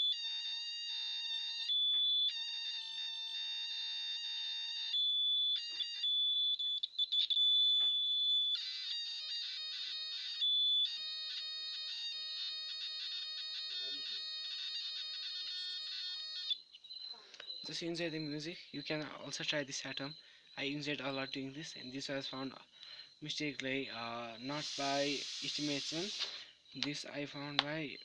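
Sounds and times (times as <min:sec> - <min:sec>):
multimeter continuity buzzer beeping: 0:00.0 - 0:21.4, 0:24.4 - 0:27.8.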